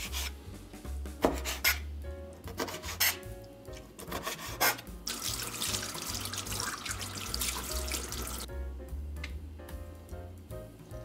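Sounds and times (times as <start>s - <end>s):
background music with bass line: 0.0s - 3.7s, 4.8s - 11.0s.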